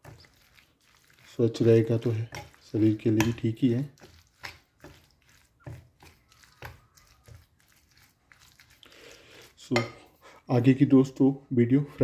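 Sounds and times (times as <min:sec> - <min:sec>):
spoon stirring batter in bowl: 0:00.0 - 0:11.2.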